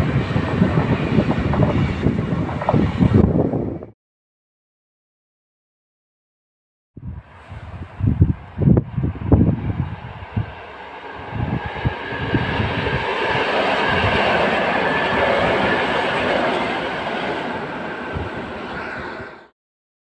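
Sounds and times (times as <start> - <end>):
train rumble and wheel clatter: 0.0 - 3.9, 7.0 - 19.5.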